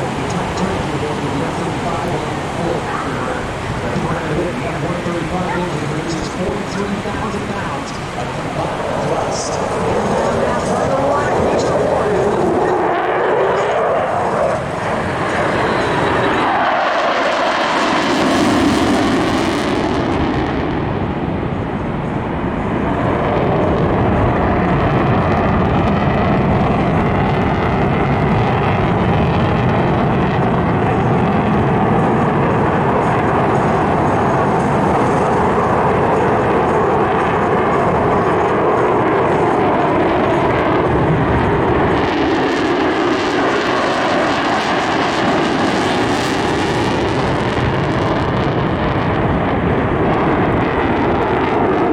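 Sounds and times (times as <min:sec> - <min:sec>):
airplane engine: 0:00.0 - 0:51.9.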